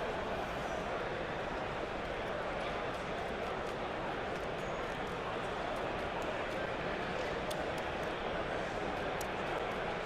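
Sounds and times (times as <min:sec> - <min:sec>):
murmur of convention crowd: 0:00.0 - 0:10.0.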